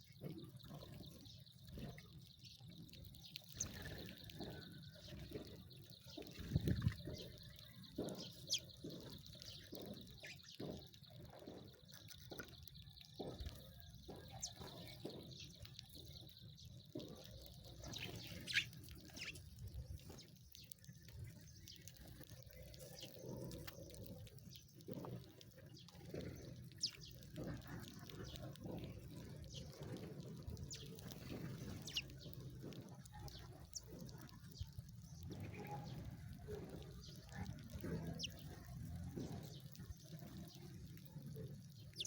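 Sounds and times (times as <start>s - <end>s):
sparrows chirping: 0.0s - 42.0s.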